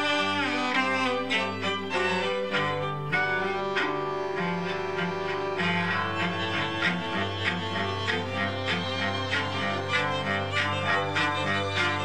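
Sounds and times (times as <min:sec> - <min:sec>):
bowed strings music: 0:00.0 - 0:12.0.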